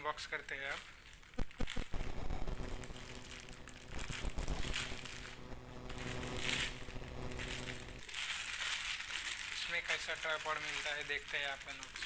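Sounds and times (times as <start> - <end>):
faint steady hum: 0.0 - 12.0
plastic bag crinkling: 0.2 - 12.0.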